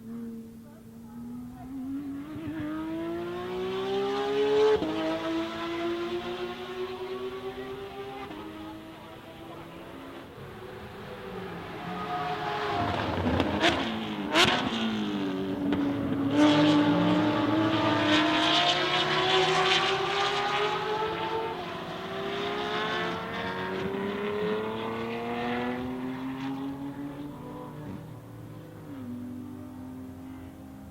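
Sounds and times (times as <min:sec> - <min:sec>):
sports car engine revving: 0:00.0 - 0:30.9.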